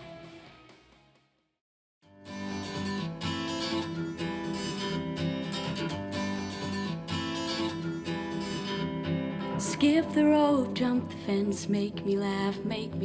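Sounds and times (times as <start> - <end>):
strummed acoustic guitar music: 2.0 - 13.0.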